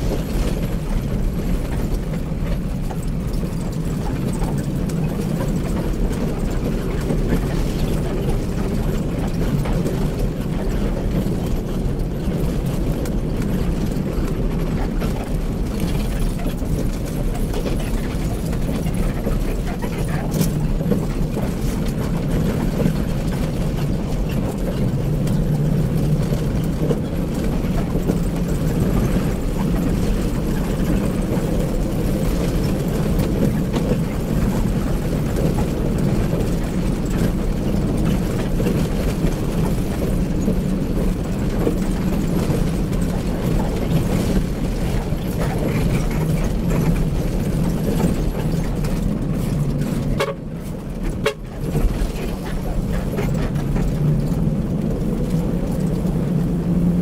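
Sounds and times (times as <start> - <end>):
bus engine and tyres droning: 0.0 - 57.0.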